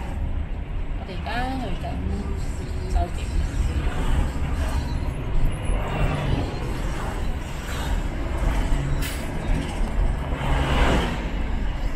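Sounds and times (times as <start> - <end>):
traffic passing close by: 0.0 - 11.9.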